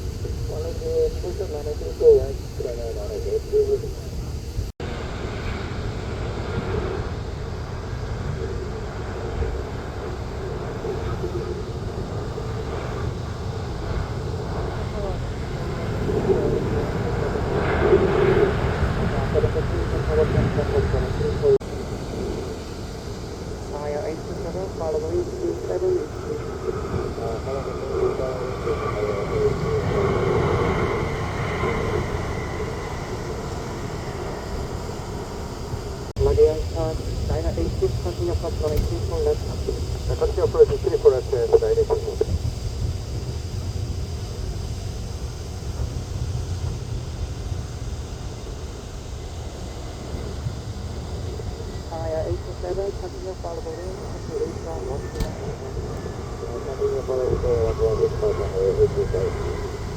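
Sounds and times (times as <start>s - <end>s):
jet airliner engine noise: 0.0s - 59.9s.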